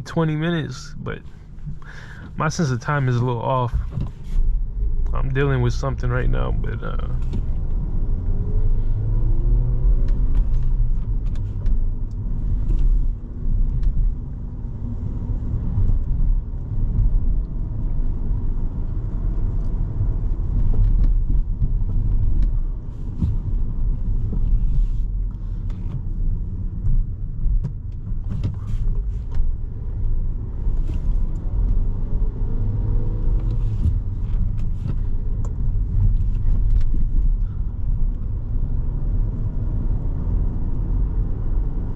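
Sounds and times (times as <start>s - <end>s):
car cabin engine and road rumble: 0.0s - 41.9s.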